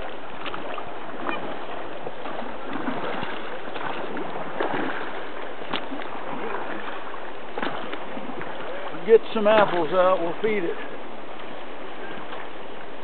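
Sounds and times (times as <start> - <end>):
small splashes: 0.0 - 12.6
river water rushing: 0.0 - 13.0.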